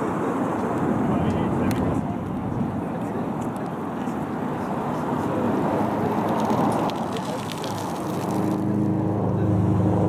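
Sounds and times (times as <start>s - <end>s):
rumbling background noise: 0.0s - 10.0s.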